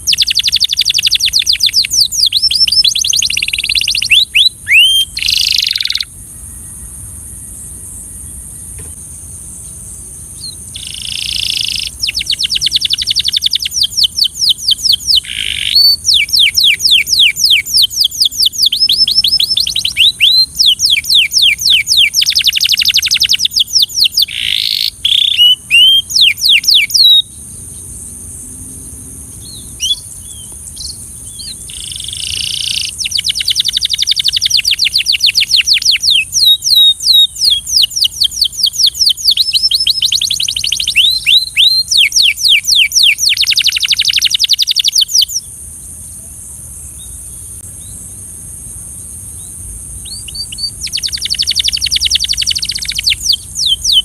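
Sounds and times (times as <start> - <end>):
canary singing trills: 0.0 - 7.0, 9.6 - 45.6, 49.2 - 54.0
steady high hiss: 0.0 - 54.0.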